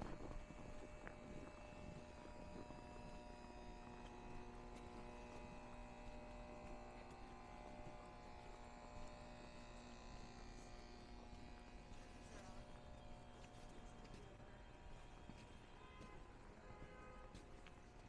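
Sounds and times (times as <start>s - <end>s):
faint mechanical hum: 0.0s - 18.0s.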